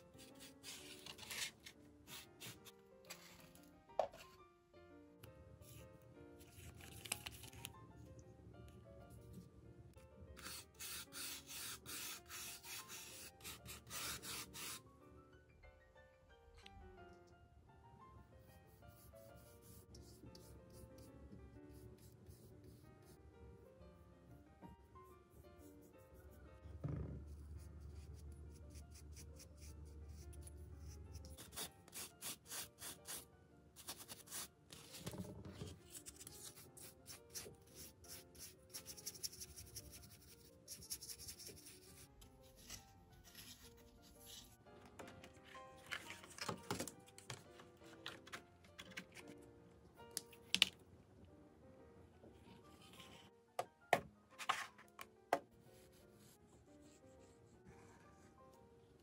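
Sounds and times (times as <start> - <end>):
soft background music: 0.0 - 59.0.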